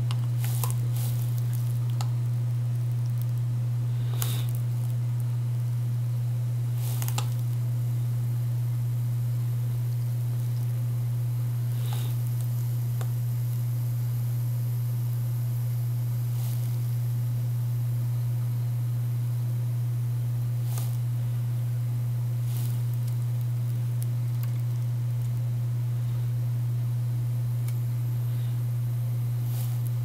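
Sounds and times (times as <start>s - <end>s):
low electrical hum: 0.0s - 30.0s
solder crackling: 0.0s - 30.0s.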